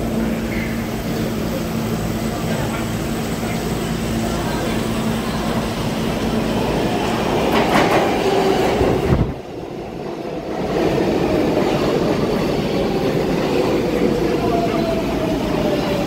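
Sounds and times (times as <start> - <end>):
subway train rumble and rail noise: 0.0 - 16.0.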